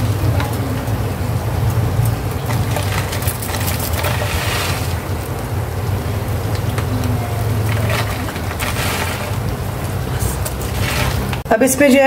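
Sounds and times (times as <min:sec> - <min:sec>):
gas stove burner rumble: 0:00.0 - 0:11.5.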